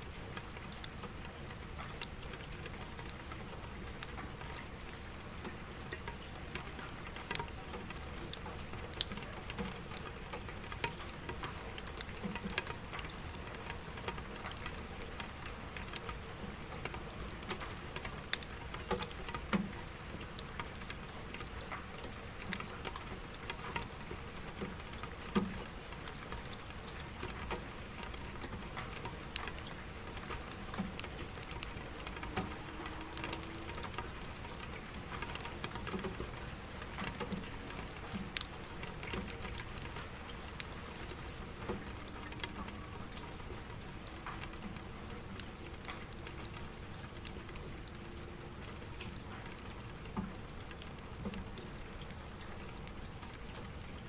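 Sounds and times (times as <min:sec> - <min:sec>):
raindrops pattering: 0:00.0 - 0:54.0
steady rain falling: 0:00.0 - 0:54.0.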